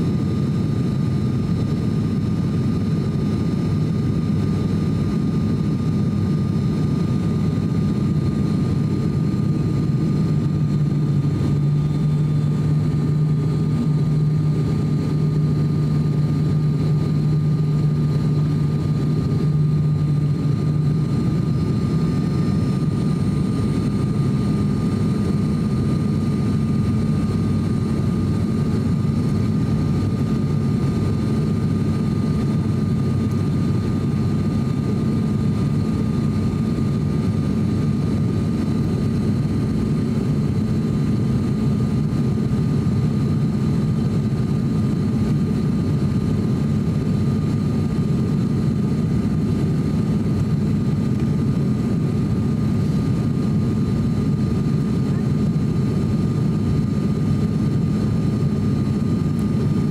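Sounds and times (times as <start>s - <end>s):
aircraft engine and propeller drone: 0.0s - 59.9s
thin steady whine: 0.0s - 59.9s.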